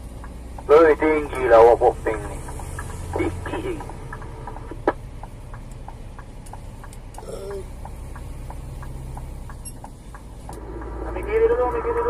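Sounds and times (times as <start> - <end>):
light regular ticking: 0.0 - 12.0
truck engine running at low revs: 0.0 - 12.0.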